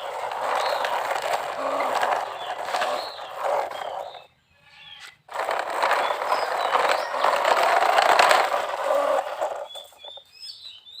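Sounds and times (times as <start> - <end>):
plastic toy truck rattling: 0.0 - 4.3, 5.2 - 10.2.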